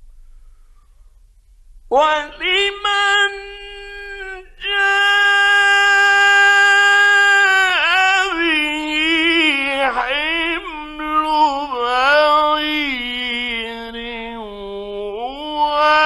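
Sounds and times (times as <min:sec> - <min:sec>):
man chanting melodically: 0:01.9 - 0:16.0.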